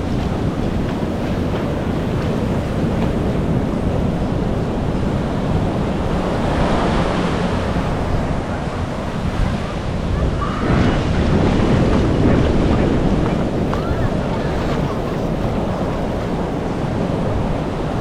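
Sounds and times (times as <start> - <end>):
ocean surf washing on beach: 0.0 - 18.0
wind rumbling on microphone: 0.0 - 18.0.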